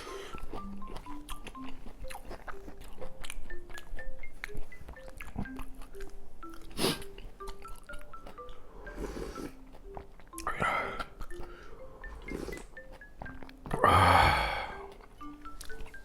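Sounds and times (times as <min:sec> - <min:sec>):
person chewing: 0:00.0 - 0:16.0
simple melody of single notes: 0:00.1 - 0:16.0.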